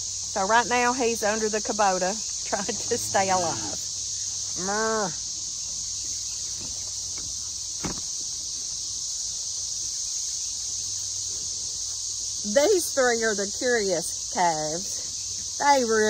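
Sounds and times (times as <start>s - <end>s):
cicadas chorus: 0.0s - 16.0s.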